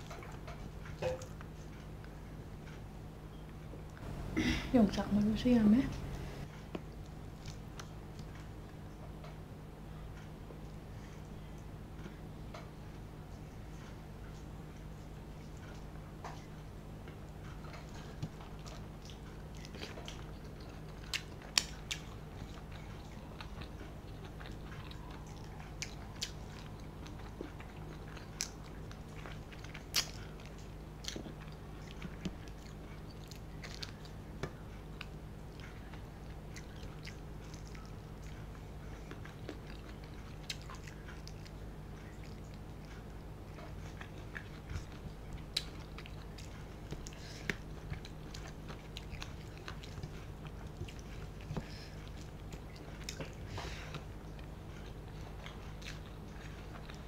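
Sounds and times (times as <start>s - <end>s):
person chewing food: 0.0s - 4.5s, 5.9s - 9.4s, 10.0s - 57.0s
faint low hum: 0.0s - 57.0s.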